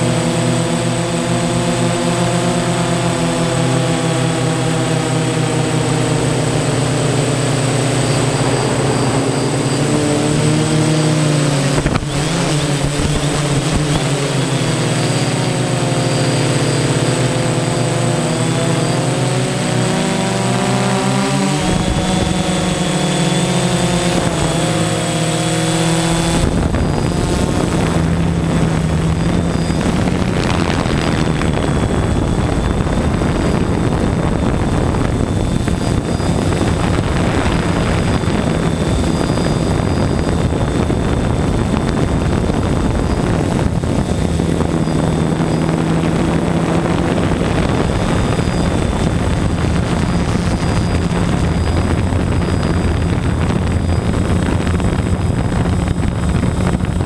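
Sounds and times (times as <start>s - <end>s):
drone motors humming and whining: 0.0s - 57.0s.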